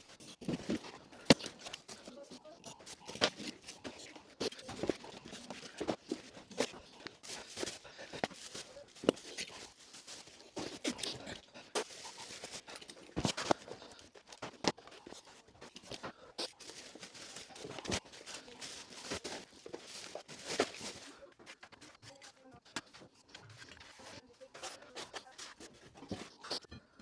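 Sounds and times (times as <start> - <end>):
knocks taps and scrapes: 0.1 - 26.9.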